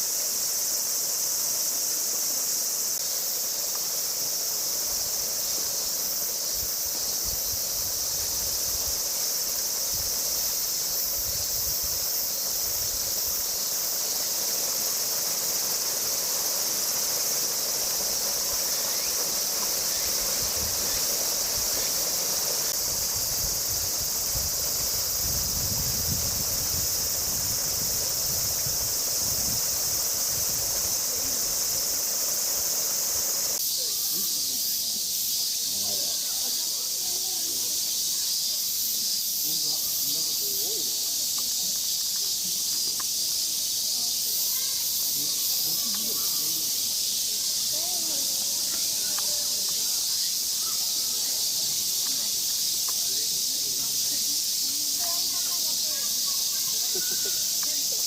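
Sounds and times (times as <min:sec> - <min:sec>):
cicadas droning: 0:00.0 - 0:58.0.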